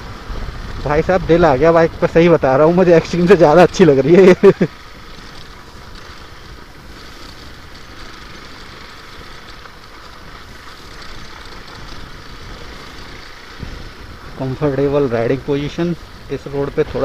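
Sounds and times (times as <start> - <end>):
motorcycle engine running: 0.0 - 17.0
wind: 0.0 - 17.0.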